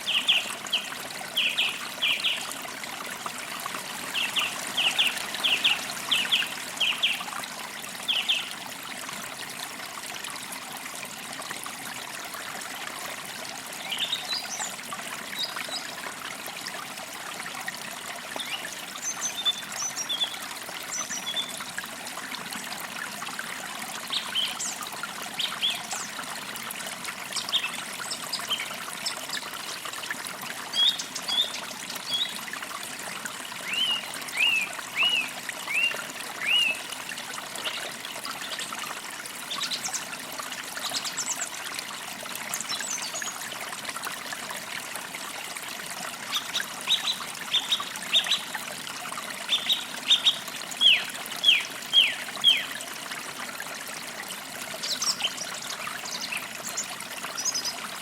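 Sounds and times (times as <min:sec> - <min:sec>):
creek trickling: 0:00.0 - 0:58.0.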